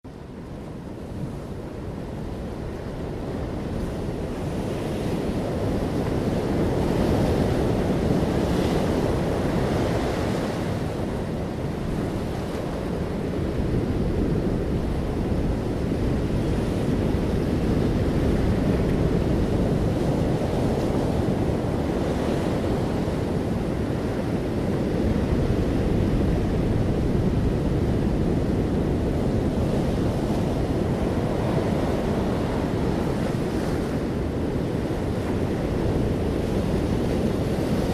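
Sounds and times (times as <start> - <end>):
sea waves washing in: 0.1 - 37.9
wind on microphone: 0.1 - 37.9.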